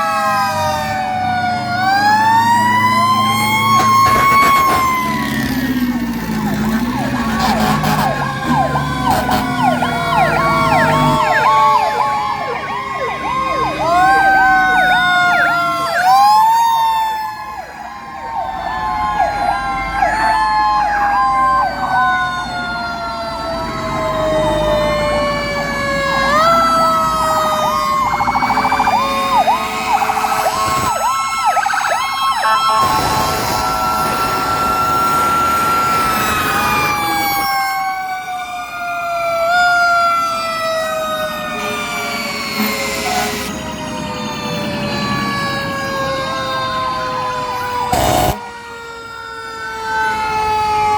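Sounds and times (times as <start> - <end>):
fire truck sirens: 0.0 - 50.9.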